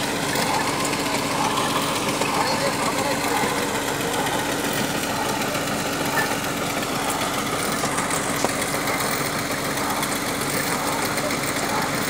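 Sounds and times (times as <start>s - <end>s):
drilling rig engine running: 0.0s - 12.0s.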